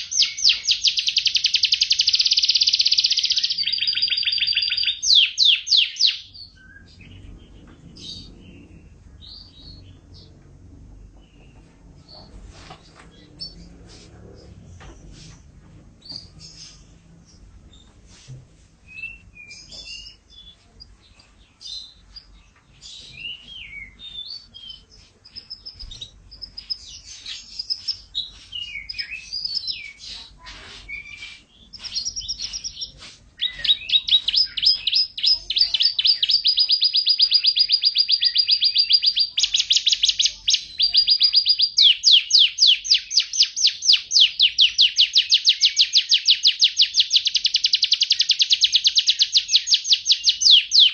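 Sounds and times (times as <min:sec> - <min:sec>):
canary singing: 0:00.0 - 0:13.9, 0:16.0 - 0:17.9, 0:18.9 - 0:50.9.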